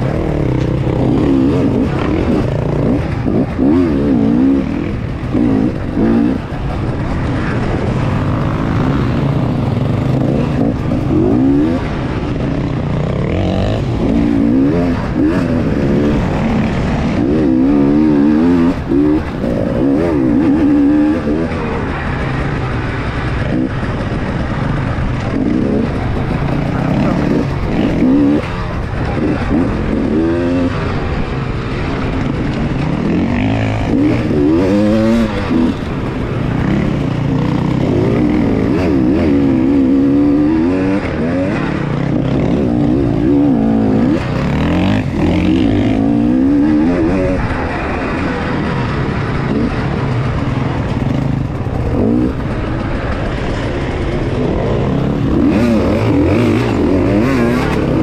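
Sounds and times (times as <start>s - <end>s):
dirt bike engine revving: 0.0s - 58.0s
other dirt bikes running: 0.0s - 58.0s.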